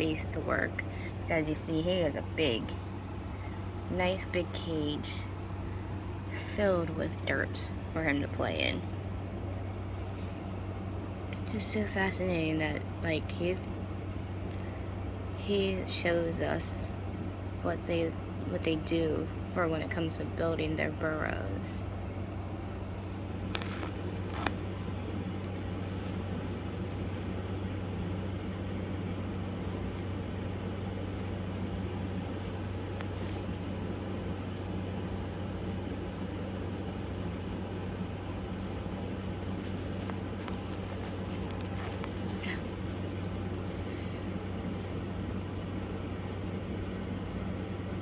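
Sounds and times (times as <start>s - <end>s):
crickets chirping: 0.0s - 48.0s
low electrical hum: 0.0s - 48.0s.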